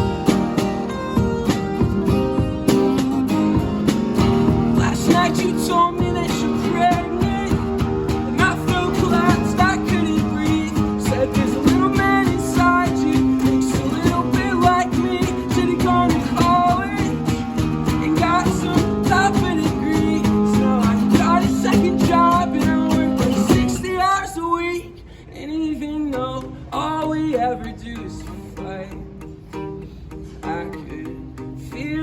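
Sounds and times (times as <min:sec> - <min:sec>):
acoustic guitars strumming: 0:00.0 - 0:32.0.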